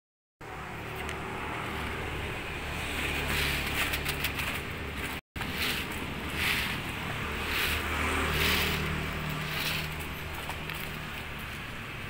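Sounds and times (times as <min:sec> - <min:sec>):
street traffic hum: 0:00.4 - 0:12.0.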